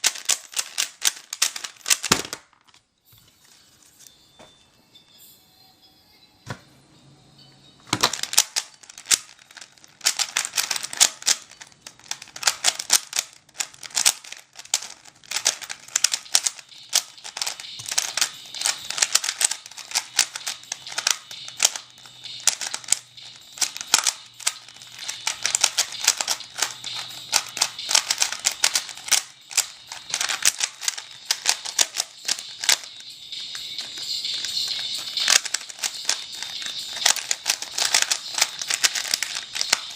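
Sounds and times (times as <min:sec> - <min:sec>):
plastic cube clicking as turned: 0:00.0 - 0:02.4, 0:08.0 - 0:39.9.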